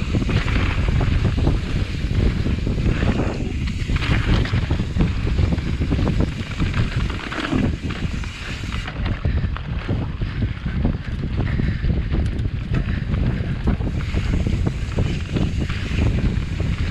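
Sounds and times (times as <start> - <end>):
bike rattling and knocking: 0.0 - 16.9
wind rushing over microphone: 0.0 - 16.9.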